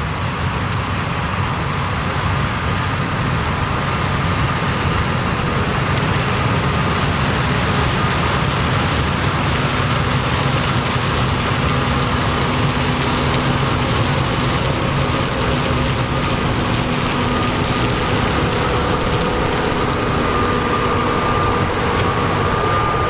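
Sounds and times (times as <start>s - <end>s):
combine harvester engine: 0.0s - 23.0s
harvesting machinery noise: 0.0s - 23.0s.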